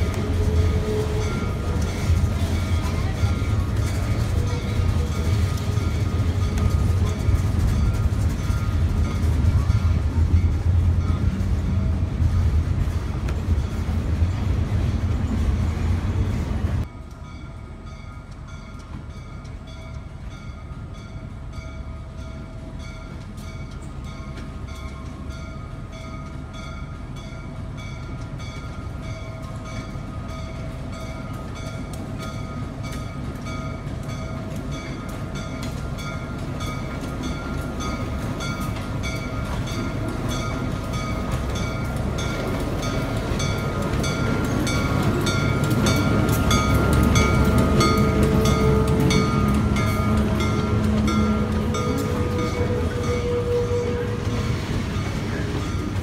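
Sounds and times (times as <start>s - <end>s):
coaches rolling on rails: 0.0s - 56.0s
diesel locomotive engine passing: 0.0s - 56.0s.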